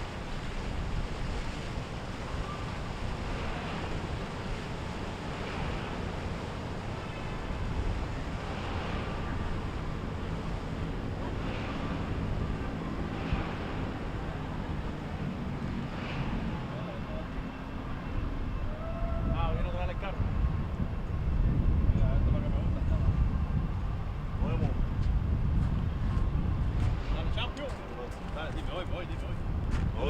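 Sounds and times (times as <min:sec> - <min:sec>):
boat engine droning: 0:00.0 - 0:30.0
waves washing: 0:00.0 - 0:30.0
wind buffeting microphone: 0:00.0 - 0:30.0.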